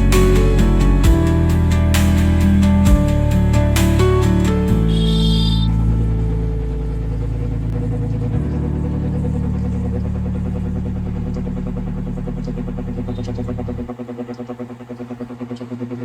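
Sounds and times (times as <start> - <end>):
flour mill machine drone: 0.0 - 15.2.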